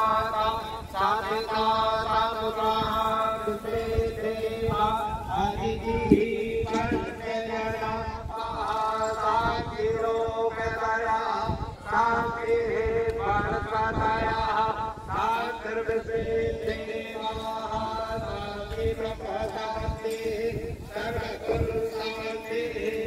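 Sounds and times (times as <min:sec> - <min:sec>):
man chanting: 0:00.0 - 0:23.0.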